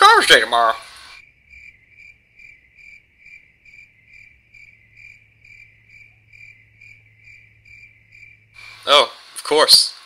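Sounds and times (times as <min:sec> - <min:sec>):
crickets chirping: 0:00.1 - 0:09.1.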